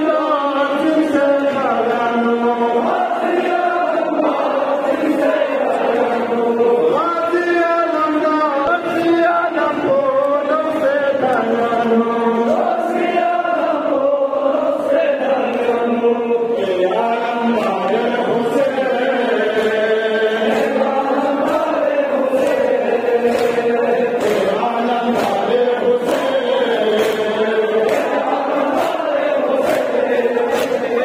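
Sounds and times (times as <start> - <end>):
men chanting in unison: 0.0 - 31.0
rhythmic chest-beating: 0.0 - 31.0.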